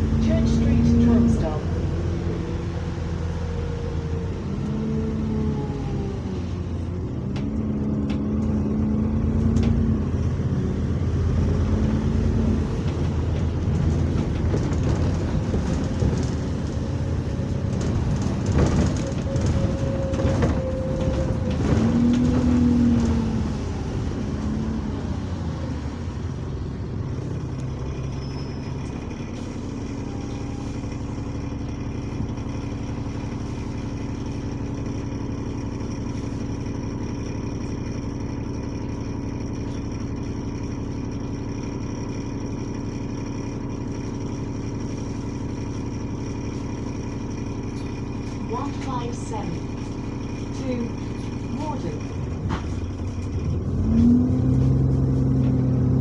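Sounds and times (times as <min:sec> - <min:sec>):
diesel bus engine: 0:00.0 - 0:56.0.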